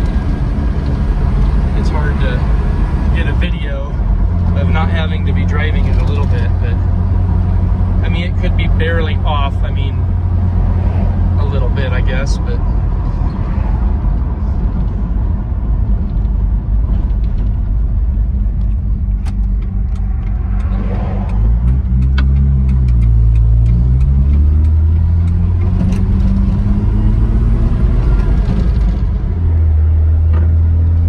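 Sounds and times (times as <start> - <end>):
road noise: 0.0 - 31.0
rotary engine humming: 0.0 - 31.0.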